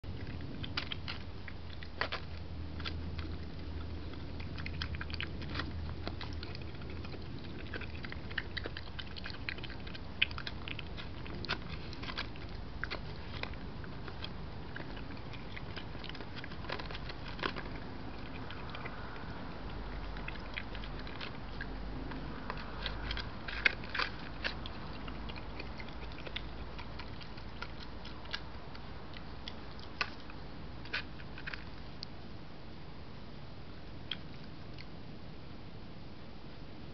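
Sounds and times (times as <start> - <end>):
animal chewing and crunching: 0.0 - 32.3, 34.0 - 35.1.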